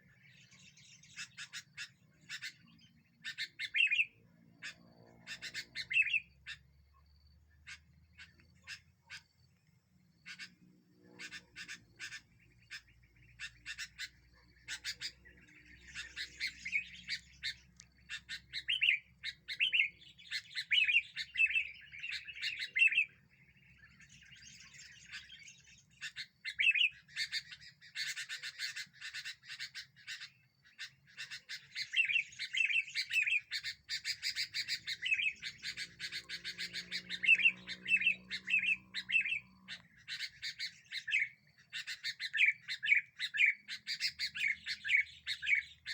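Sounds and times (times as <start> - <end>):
bulbul chirping and chattering: 0.1 - 4.0, 4.6 - 6.7, 10.0 - 45.9.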